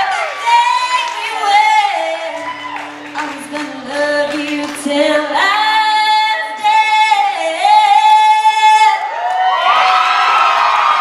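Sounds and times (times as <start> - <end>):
woman singing into microphone: 0.0 - 9.2.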